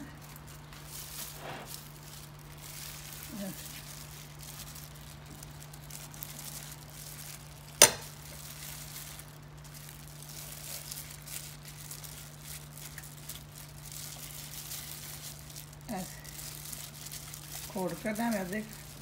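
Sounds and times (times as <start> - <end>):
glove and flour rustling: 0.0 - 19.0
steady low hum: 0.0 - 19.0.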